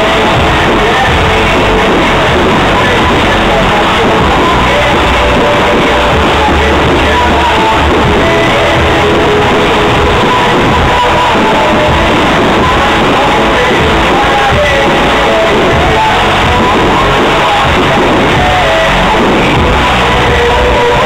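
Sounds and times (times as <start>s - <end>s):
music with singing over loudspeakers: 0.0s - 21.0s.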